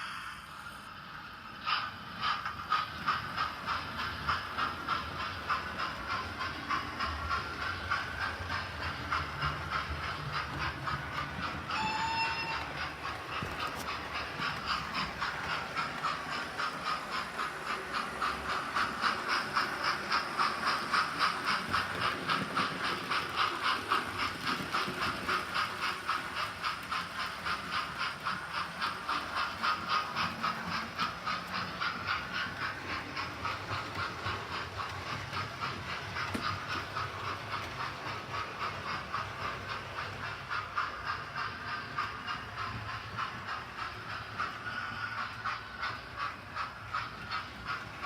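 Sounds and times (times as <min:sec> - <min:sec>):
steam locomotive chuffing from speaker: 0:00.0 - 0:48.0.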